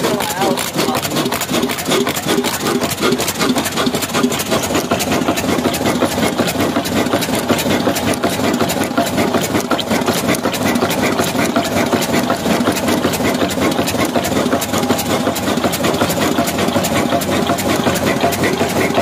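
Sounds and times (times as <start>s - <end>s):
diesel engine clattering: 0.0s - 19.0s.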